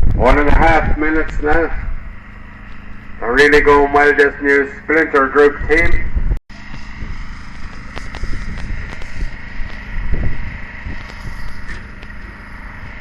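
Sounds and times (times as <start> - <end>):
wind rumbling on microphone: 0.0 - 4.0, 5.4 - 13.0.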